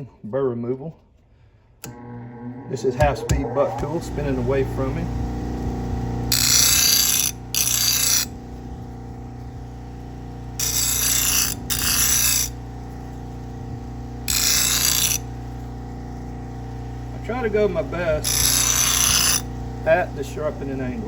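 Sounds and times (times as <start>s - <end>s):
bench grinder running: 1.9s - 21.0s
knife hissing on buffing wheel: 3.9s - 21.0s.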